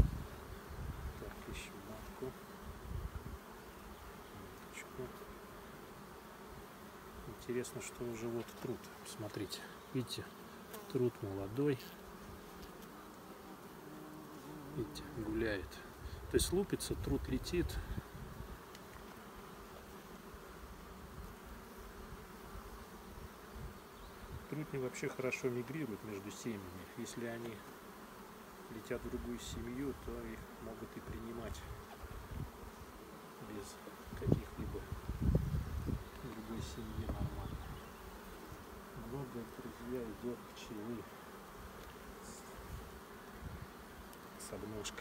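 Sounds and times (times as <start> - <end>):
bees humming: 0.0 - 45.0.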